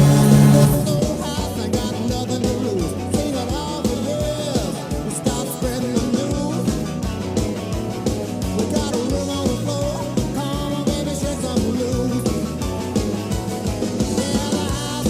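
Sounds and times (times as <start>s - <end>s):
rock song with singer: 0.0s - 15.0s.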